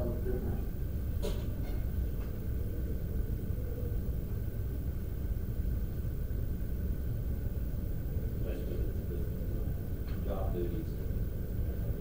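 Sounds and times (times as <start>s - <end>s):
faint high hum: 0.0s - 12.0s.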